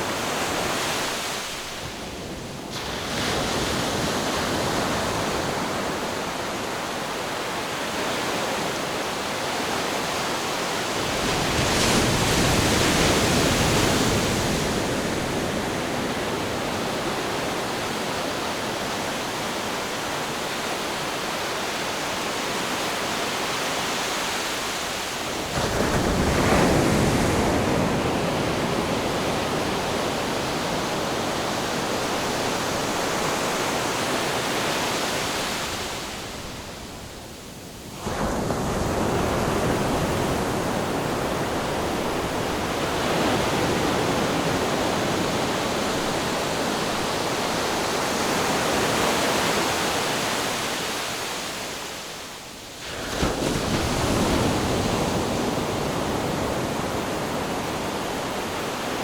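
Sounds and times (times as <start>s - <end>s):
waves crashing: 0.0s - 37.2s, 37.8s - 59.0s
ocean surf washing: 0.0s - 59.0s.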